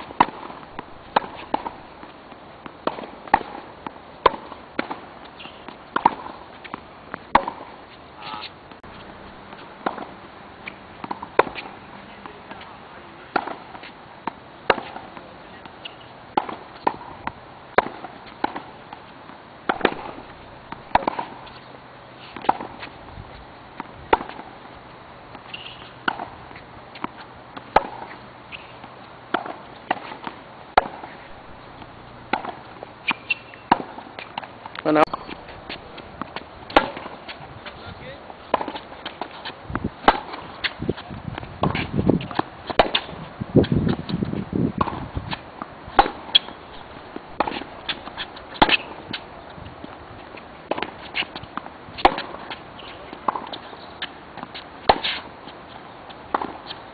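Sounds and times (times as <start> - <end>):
tennis racket striking ball: 0.0 - 2.1, 2.7 - 11.8, 13.3 - 18.7, 19.6 - 21.6, 22.3 - 22.9, 23.8 - 24.6, 25.3 - 37.8, 38.4 - 43.2, 44.8 - 49.2, 49.8 - 55.3, 56.2 - 56.8
tennis ball bouncing on court: 0.0 - 21.7, 22.4 - 23.0, 23.7 - 24.7, 25.3 - 43.1, 43.8 - 56.8.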